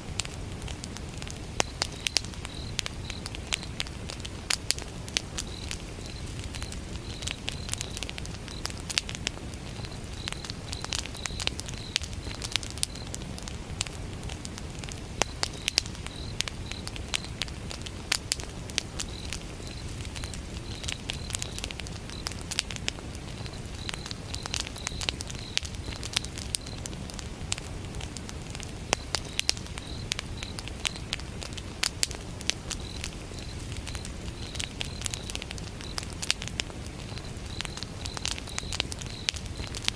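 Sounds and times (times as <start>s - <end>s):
campfire crackling and popping: 0.0s - 39.9s
crickets chirping: 0.5s - 39.9s.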